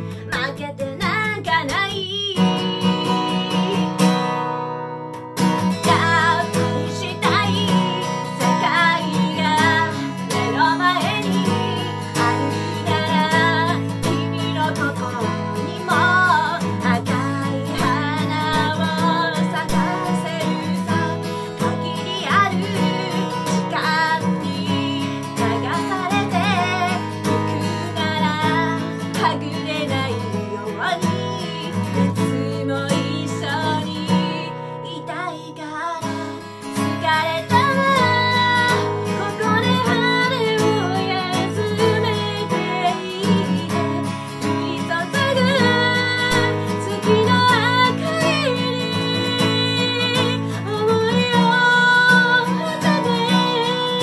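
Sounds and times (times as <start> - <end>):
acoustic guitar strumming: 0.0 - 54.0
woman singing pop ballad: 0.0 - 54.0.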